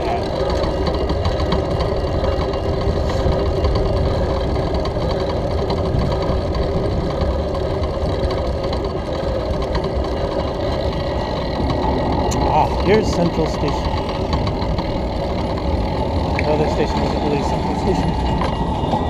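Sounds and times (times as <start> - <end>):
bicycle rolling over bricks: 0.0 - 19.0.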